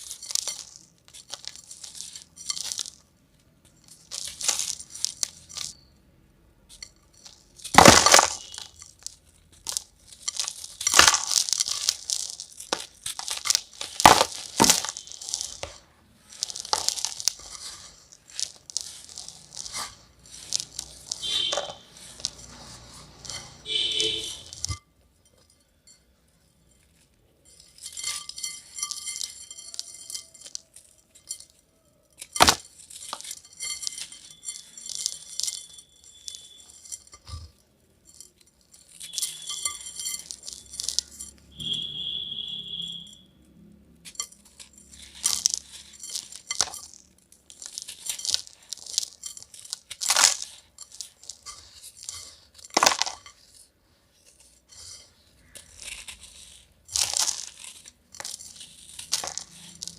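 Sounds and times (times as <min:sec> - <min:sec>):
grainy material crunching in pot: 0:00.0 - 0:24.8, 0:26.6 - 0:59.9.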